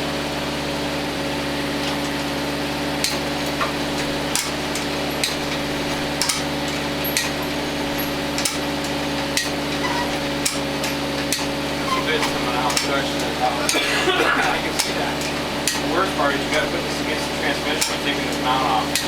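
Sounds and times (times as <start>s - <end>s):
steady hum: 0.0s - 19.0s
sharp metallic taps: 3.0s - 19.0s.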